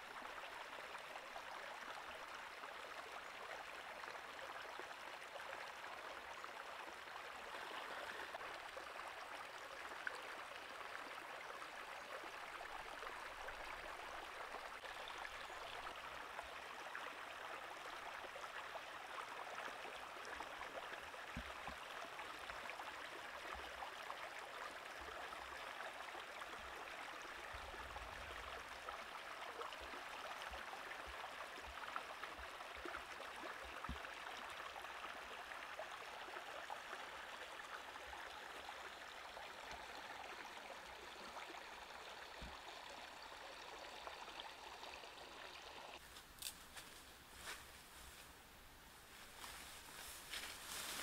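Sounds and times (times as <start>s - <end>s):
stream running over rocks: 0.0s - 51.0s.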